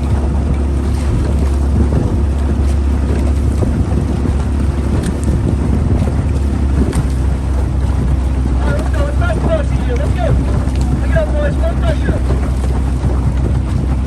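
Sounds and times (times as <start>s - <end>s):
boat motor humming: 0.0s - 14.0s
wind buffeting microphone: 0.0s - 14.0s.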